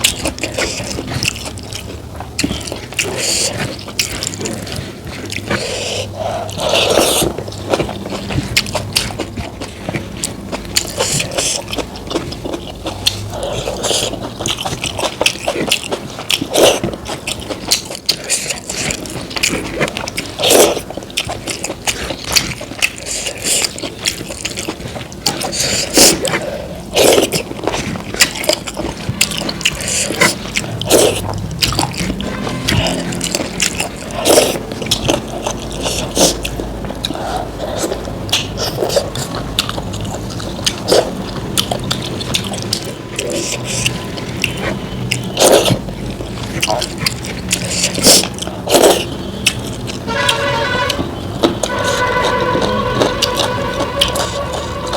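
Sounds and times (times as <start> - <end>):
food crunching: 0.0 - 54.9
person chewing food: 0.0 - 54.9.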